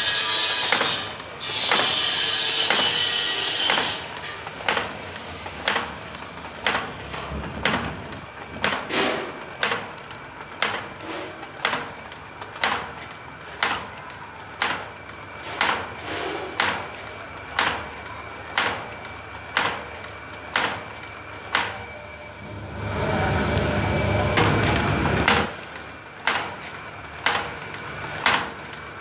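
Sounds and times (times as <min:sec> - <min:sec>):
wire bending machine clacking: 0:00.0 - 0:22.3, 0:23.5 - 0:29.0.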